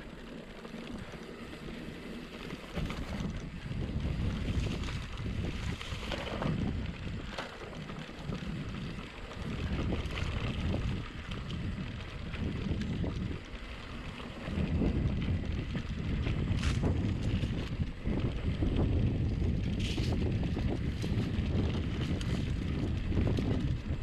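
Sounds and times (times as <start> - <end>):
bike rolling on dirt trail: 0.0 - 24.0
wind buffeting microphone: 0.0 - 24.0.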